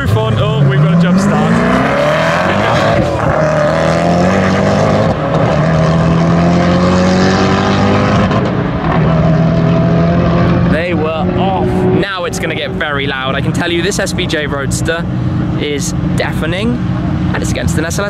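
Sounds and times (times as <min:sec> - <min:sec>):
cars accelerating hard: 0:00.0 - 0:18.0.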